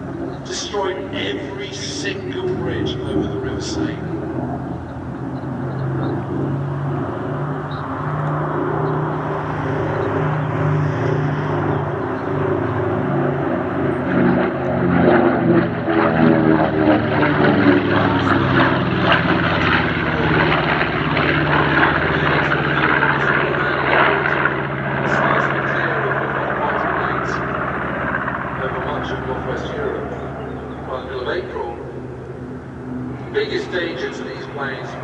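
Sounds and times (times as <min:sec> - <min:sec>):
propeller plane flying past: 0:00.0 - 0:35.0.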